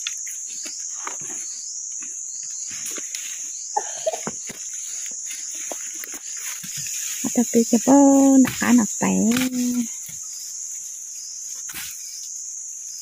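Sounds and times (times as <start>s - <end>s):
footsteps crunching dry leaves: 0.0s - 12.2s
high insect drone: 0.0s - 13.0s.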